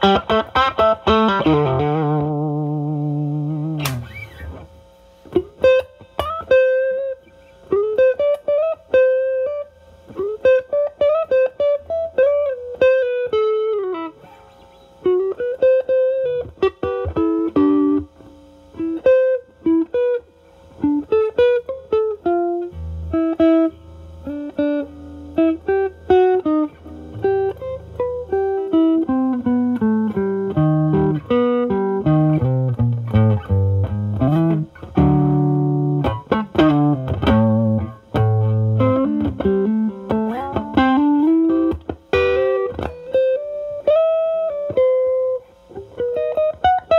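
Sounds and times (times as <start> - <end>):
overdriven electric guitar blues lead: 0.0 - 46.9.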